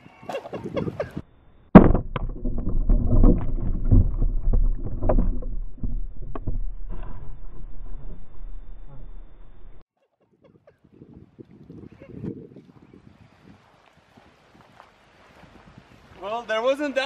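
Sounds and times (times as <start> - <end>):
wind on microphone: 0.0 - 1.3, 1.9 - 16.2.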